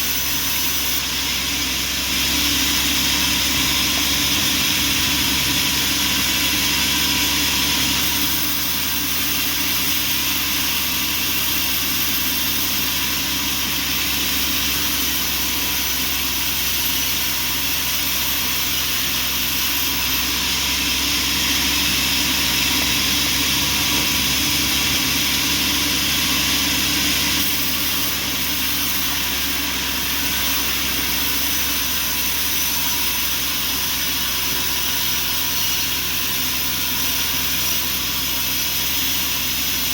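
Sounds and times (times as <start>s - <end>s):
bandsaw sawmill drone: 0.0s - 39.9s.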